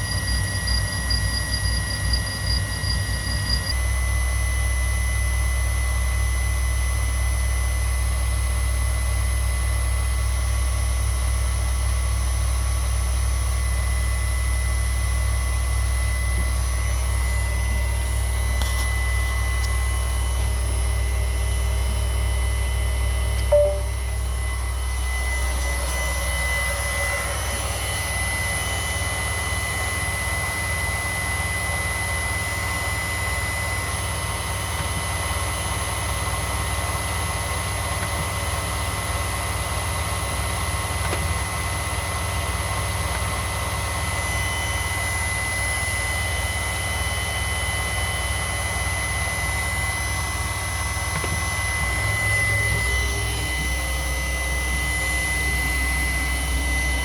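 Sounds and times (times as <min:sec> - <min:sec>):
milling machine motor whine: 0:00.0 - 0:57.0.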